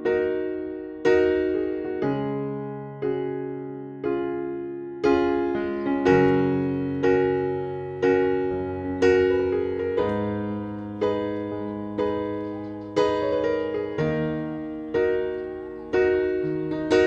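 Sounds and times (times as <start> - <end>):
keyboard playing slow chords: 0.0 - 17.0.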